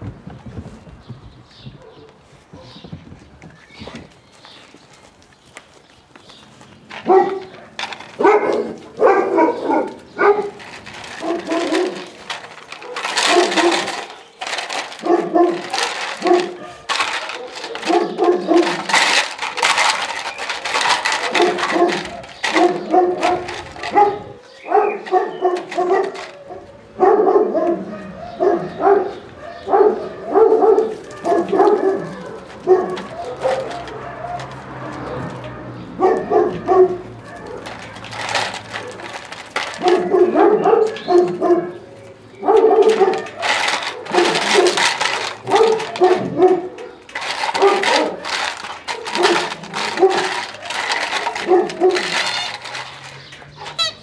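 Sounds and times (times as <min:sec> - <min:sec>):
puppies barking and yapping: 0:01.5 - 0:02.9, 0:06.3 - 0:54.0
plastic bottles crackling: 0:03.3 - 0:27.9, 0:28.8 - 0:54.0.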